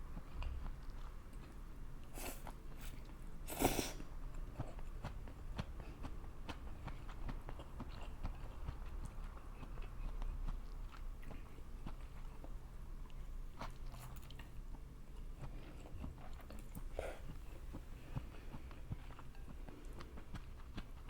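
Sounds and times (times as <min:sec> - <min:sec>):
chewing and biting food: 0:00.0 - 0:03.4, 0:04.1 - 0:21.0.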